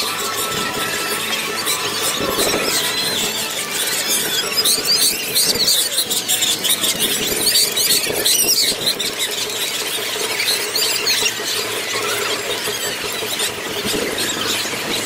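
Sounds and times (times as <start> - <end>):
sped-up crowd chatter: 0.0 - 15.0.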